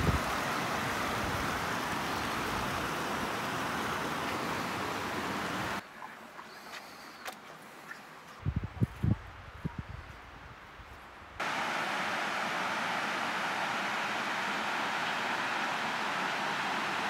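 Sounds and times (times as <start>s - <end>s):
steady rushing outdoor noise: 0.0s - 6.4s, 7.7s - 17.0s.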